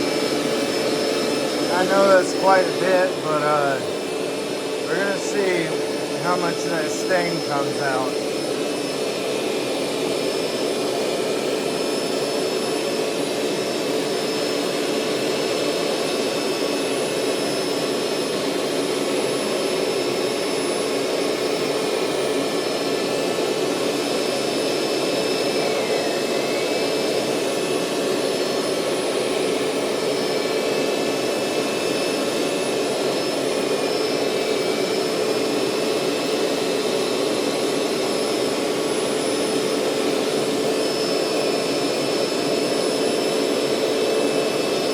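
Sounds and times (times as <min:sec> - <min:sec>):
carpet cleaner motor droning: 0:00.0 - 0:44.9.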